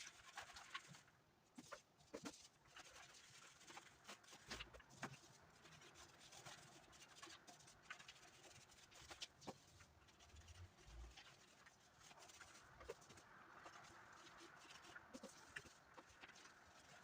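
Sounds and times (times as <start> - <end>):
faint clicks and scratches: 0.0 - 17.0.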